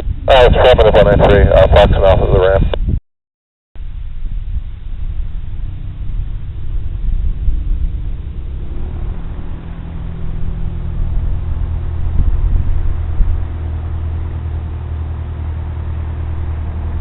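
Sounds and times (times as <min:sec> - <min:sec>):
propeller plane engine drone: 0:00.0 - 0:02.8, 0:03.8 - 0:17.0.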